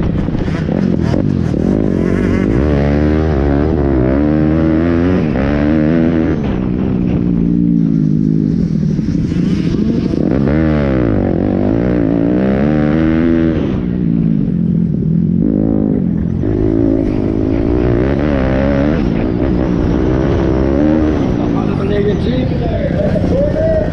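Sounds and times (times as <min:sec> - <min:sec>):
pit bike engine revving: 0:00.0 - 0:23.9.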